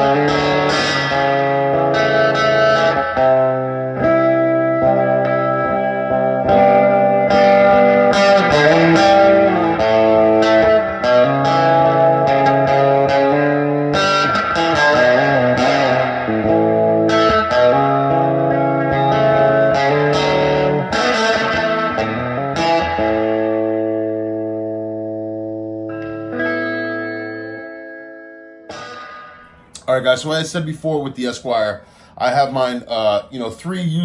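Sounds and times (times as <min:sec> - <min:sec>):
electric guitar single-note lines: 0:00.0 - 0:29.9
guitar chord ringing: 0:00.0 - 0:32.6.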